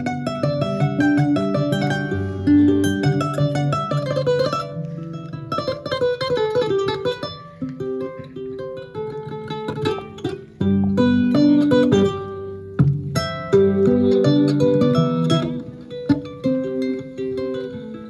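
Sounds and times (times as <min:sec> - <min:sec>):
kora plucked strings: 0:00.0 - 0:18.0.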